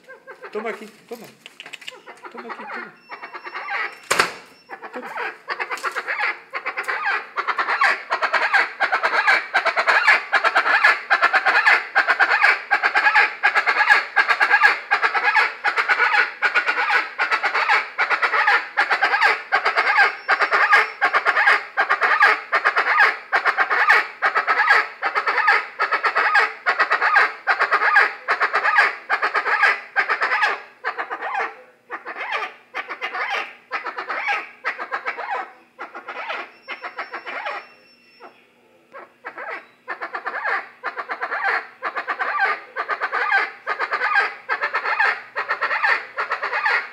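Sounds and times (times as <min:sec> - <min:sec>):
bird harsh rhythmic calling: 0:01.5 - 0:46.9.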